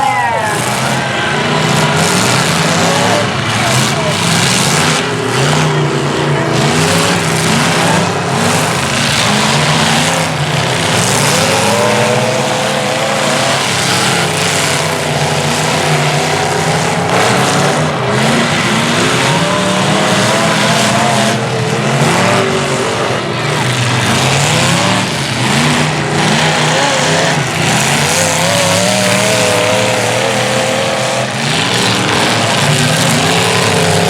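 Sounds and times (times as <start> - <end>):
engine and track noise: 0.0 - 34.0
race truck engines revving: 0.0 - 34.0.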